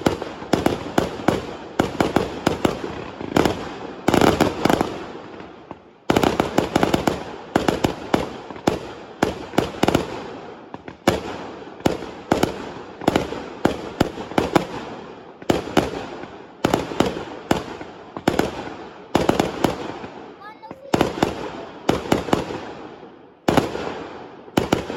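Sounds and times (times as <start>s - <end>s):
fireworks bangs echoing: 0.0s - 24.9s.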